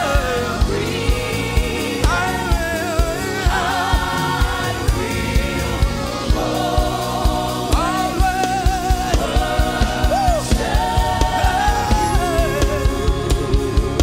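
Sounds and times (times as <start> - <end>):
band with steady drum beat: 0.0 - 14.0
lead singer and choir singing: 0.0 - 14.0.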